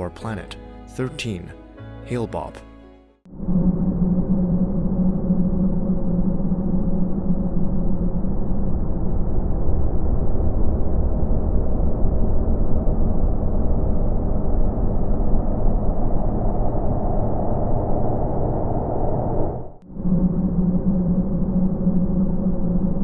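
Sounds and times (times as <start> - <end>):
faint hum: 3.3 - 23.0
steady low rumble: 3.3 - 23.0.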